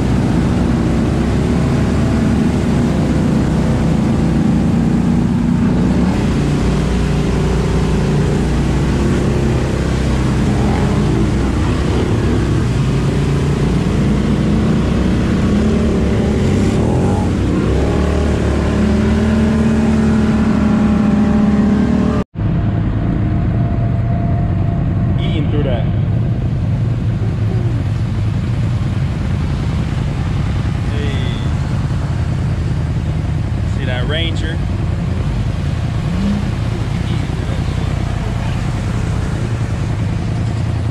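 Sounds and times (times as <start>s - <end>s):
atv engine revving: 0.0s - 22.3s, 25.2s - 40.9s.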